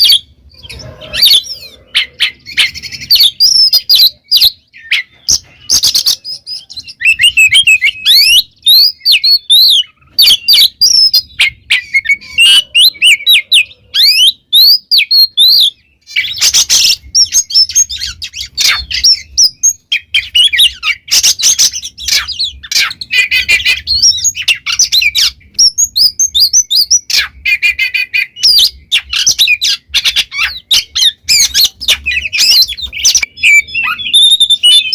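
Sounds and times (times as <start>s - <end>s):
bird singing whistled notes: 0.0s - 34.9s
harsh scratchy bird calls: 0.0s - 34.9s.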